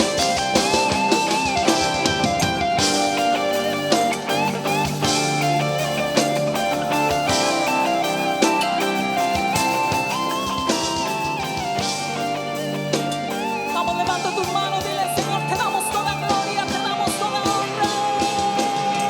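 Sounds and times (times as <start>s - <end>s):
instrumental worship band music: 0.0s - 19.0s.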